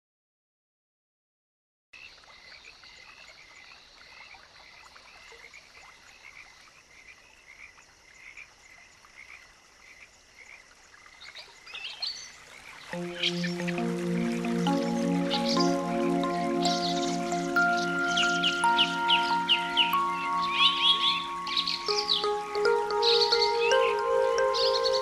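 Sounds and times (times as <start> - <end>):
faint steady hiss: 2.0 - 25.0
frogs calling: 2.0 - 25.0
higher frog calls: 2.0 - 25.0.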